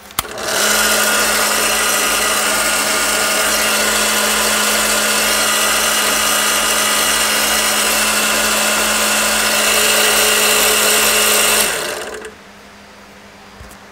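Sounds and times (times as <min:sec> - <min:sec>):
drill press motor whining: 0:00.0 - 0:12.4.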